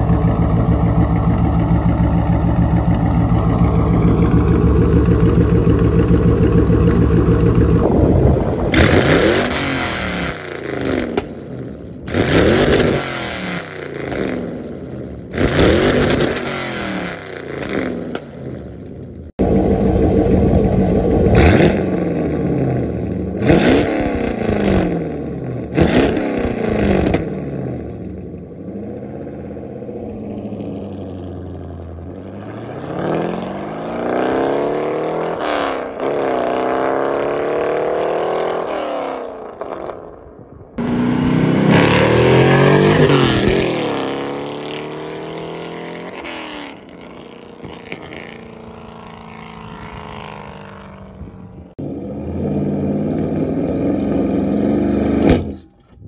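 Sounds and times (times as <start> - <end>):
loud car engine revving: 0.0 - 40.2, 40.8 - 55.7.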